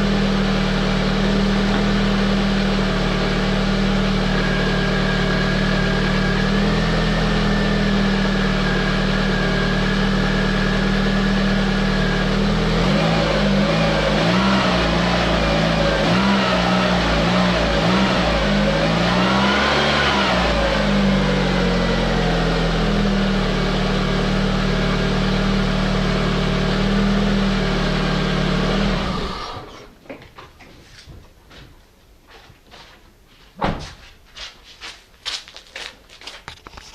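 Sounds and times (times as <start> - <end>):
car engine idling and revving: 0.0 - 29.9.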